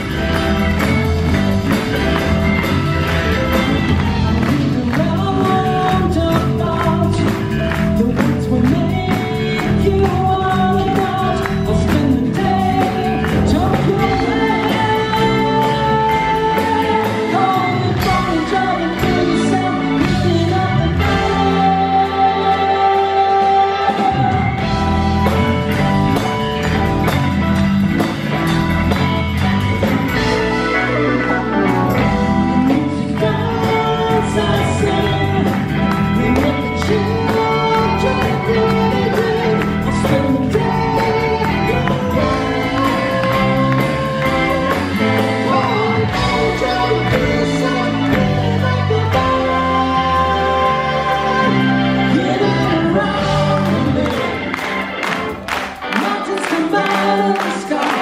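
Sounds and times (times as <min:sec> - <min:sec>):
lead vocalist singing: 0:00.0 - 0:28.1, 0:29.0 - 0:58.0
live rock band: 0:00.0 - 0:58.0.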